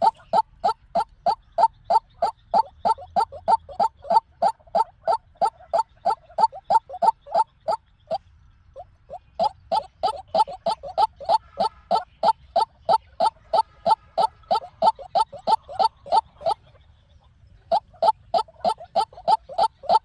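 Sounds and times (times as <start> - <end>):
waterhen calling: 0.0 - 8.2, 8.8 - 16.8, 17.6 - 20.0.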